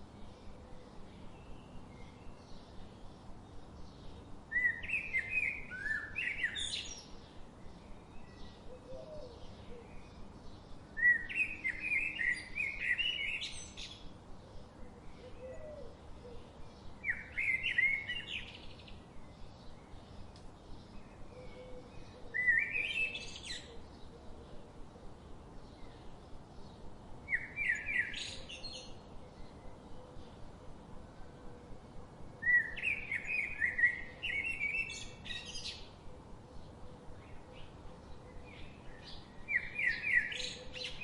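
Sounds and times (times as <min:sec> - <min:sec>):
faint bird chirping: 0:00.0 - 0:41.0
songbird singing: 0:00.0 - 0:41.0.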